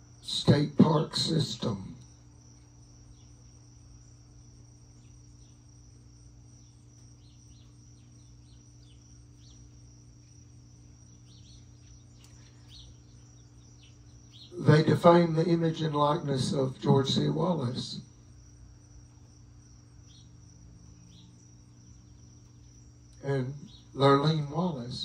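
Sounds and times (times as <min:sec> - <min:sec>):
insects trilling: 0:00.0 - 0:25.0
low steady hum: 0:00.0 - 0:25.0.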